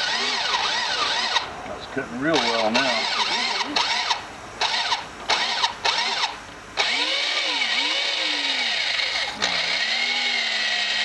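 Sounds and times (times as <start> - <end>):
power drill cutting metal: 0.0 - 1.5, 2.4 - 11.0.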